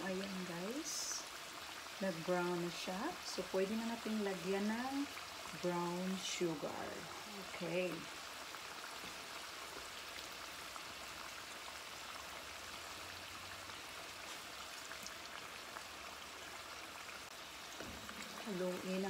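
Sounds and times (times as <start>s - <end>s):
deep-frying sizzle with crackles: 0.0s - 19.0s.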